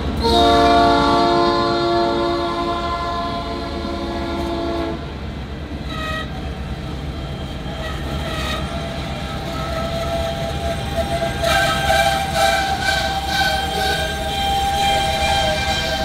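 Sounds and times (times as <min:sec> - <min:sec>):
diesel locomotive horn blasts: 0:00.0 - 0:05.2, 0:05.8 - 0:16.0
freight cars rumbling on track: 0:00.0 - 0:16.0.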